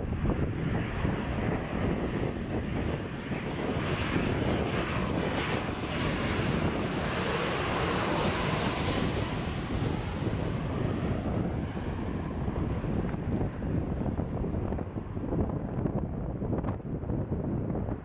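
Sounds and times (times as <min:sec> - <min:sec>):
jet engines passing overhead: 0:00.0 - 0:18.0.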